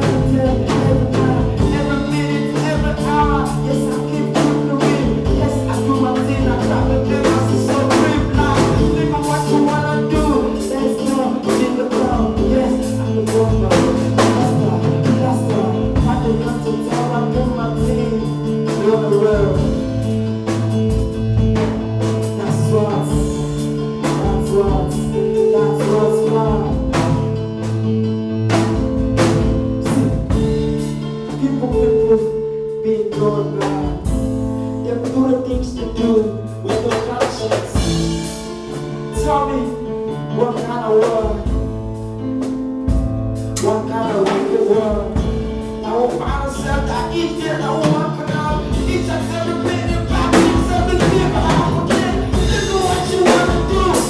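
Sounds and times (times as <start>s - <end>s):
person singing: 0.0s - 20.1s, 21.6s - 27.5s, 29.2s - 38.5s, 43.6s - 54.0s
bass and guitar: 0.0s - 54.0s
drum kit beat: 0.0s - 54.0s.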